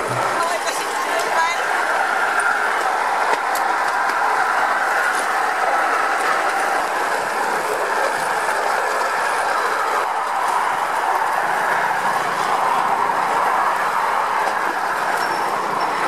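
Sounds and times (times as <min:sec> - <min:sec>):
trolley wheels rolling on rails: 0:00.0 - 0:16.0.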